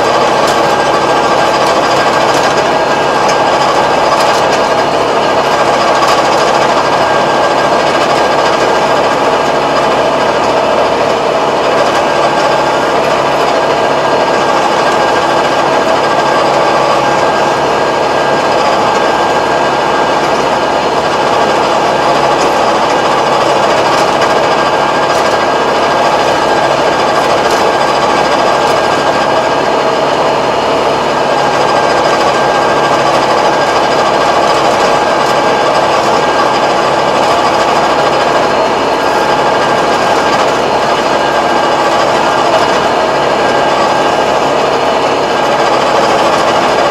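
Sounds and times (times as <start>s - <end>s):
rotary tiller clattering: 0.0s - 46.9s
tractor engine running: 0.0s - 46.9s.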